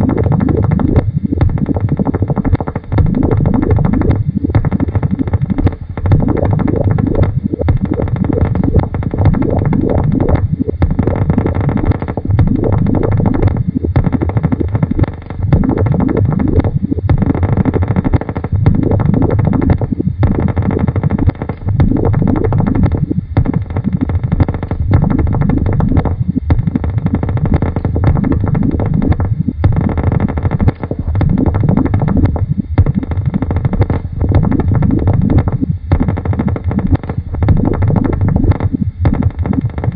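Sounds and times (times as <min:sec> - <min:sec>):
rumbling experimental noise music: 0:00.0 - 0:39.9.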